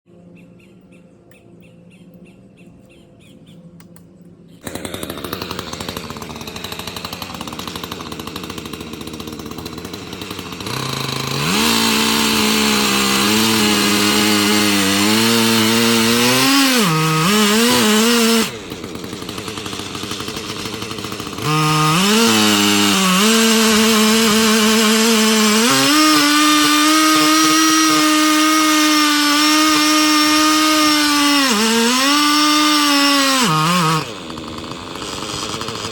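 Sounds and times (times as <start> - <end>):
chainsaw cutting a log: 4.6 - 35.9.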